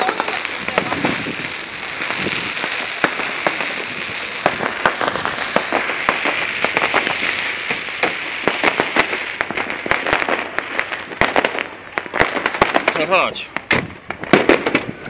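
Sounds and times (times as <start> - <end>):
fireworks crackling pops: 0.0 - 15.0
steady hiss: 0.0 - 15.0.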